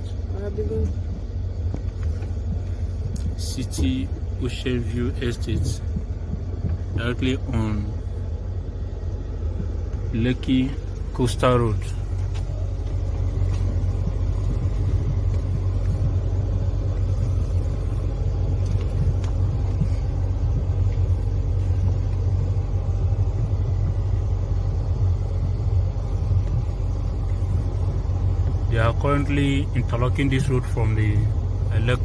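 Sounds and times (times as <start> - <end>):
car rumbling along road: 0.0 - 32.0.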